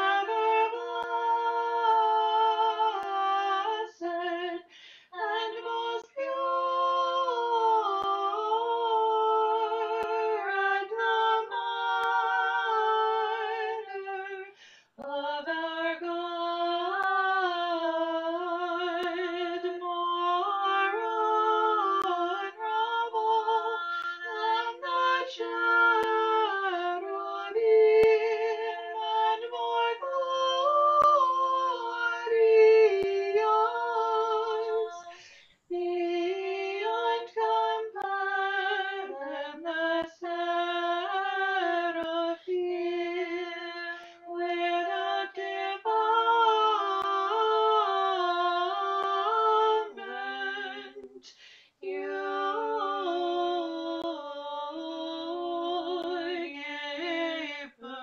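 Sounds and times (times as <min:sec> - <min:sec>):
women singing a hymn: 0:00.0 - 0:58.0.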